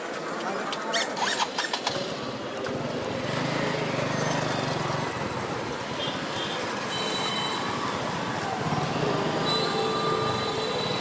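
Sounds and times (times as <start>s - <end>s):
highway traffic noise: 0.0s - 11.0s.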